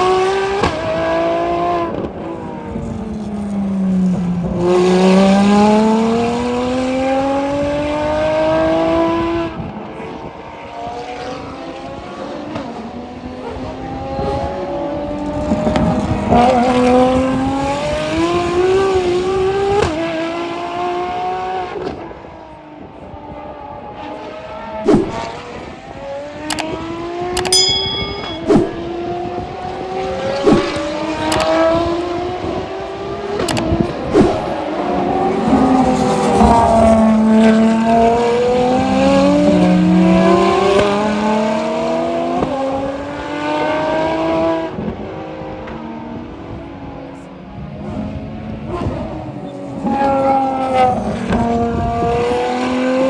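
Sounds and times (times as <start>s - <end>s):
race car engines accelerating: 0.0s - 26.3s, 29.8s - 53.0s.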